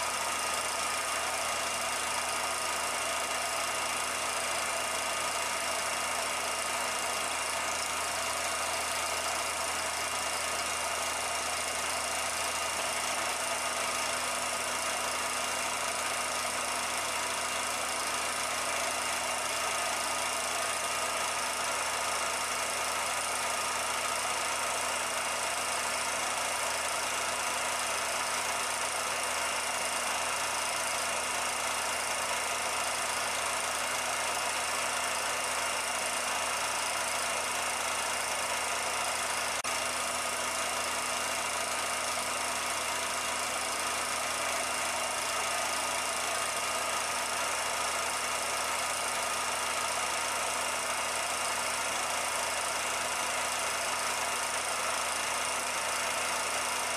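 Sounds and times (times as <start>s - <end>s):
film projector whirring and clatter: 0.0s - 56.9s.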